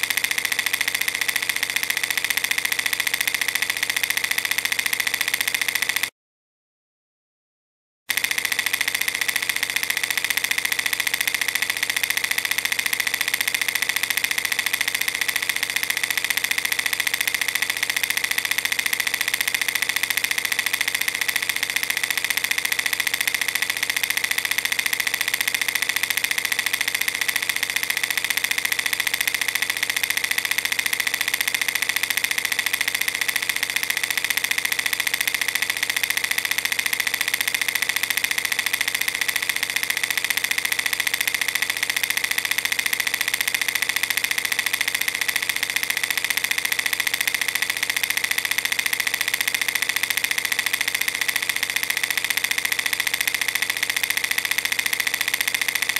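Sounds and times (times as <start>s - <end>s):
film projector clatter and whir: 0.0s - 6.1s, 8.1s - 55.9s.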